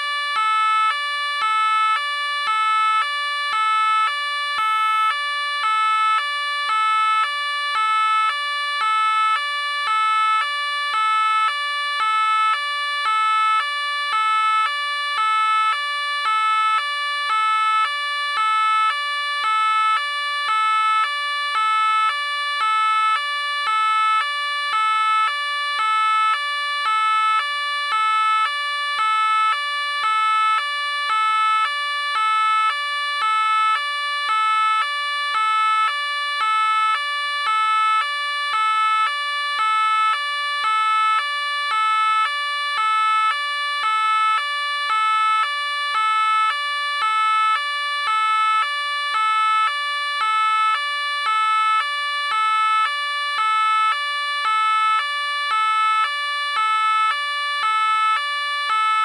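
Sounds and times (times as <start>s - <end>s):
police car two-tone siren: 0.0s - 59.0s.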